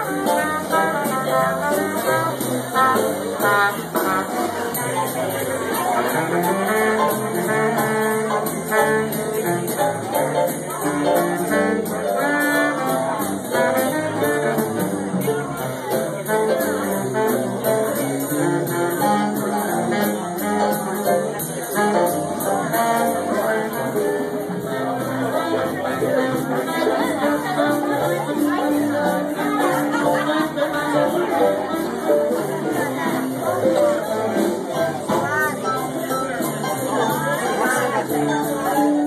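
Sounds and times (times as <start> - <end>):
horns playing melody: 0.0 - 5.4, 6.0 - 15.3, 16.2 - 38.4
drum kit beat with cymbals: 0.0 - 39.0.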